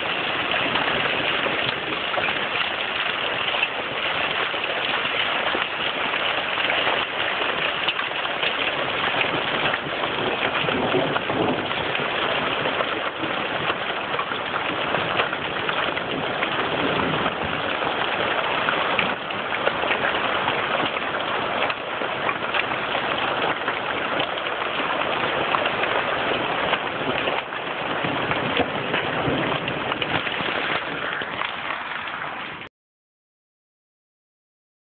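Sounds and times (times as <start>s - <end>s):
hail and heavy rain pelting: 0.0s - 32.7s.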